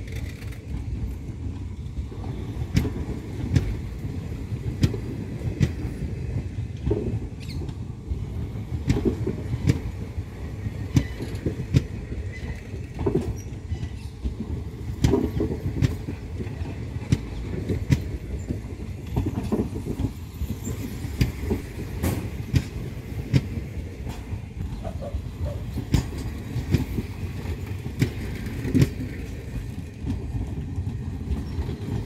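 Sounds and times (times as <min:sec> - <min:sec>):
train coaches rumbling past: 0:00.0 - 0:32.0.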